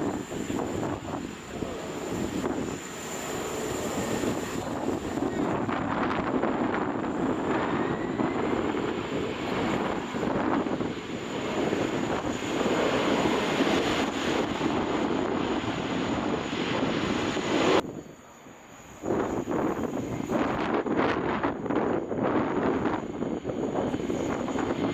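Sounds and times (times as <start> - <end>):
faint wind noise: 0.0 - 24.9
jet engines roaring: 0.0 - 24.9.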